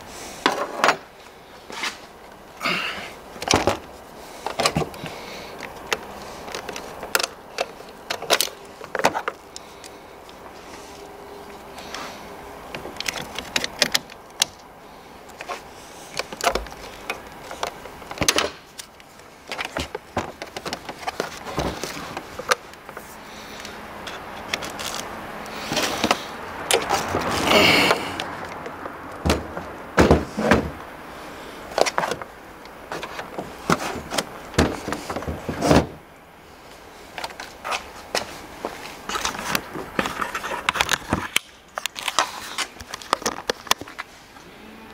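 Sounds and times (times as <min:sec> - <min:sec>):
rustling of cable and plastic: 0:00.3 - 0:44.5.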